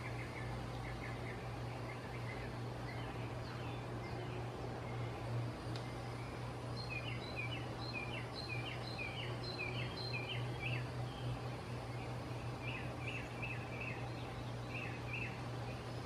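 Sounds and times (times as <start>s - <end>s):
bird chirping: 0.0s - 16.0s
steady low hum: 0.0s - 16.0s.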